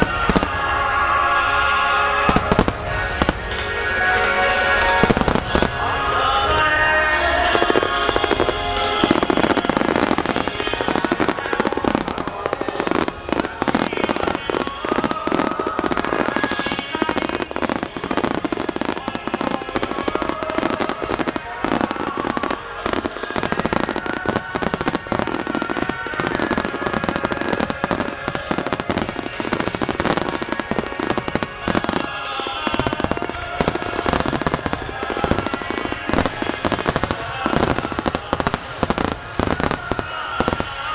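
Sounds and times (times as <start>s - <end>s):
fireworks bangs and crackles: 0.0s - 40.9s
music over loudspeakers: 0.0s - 40.9s.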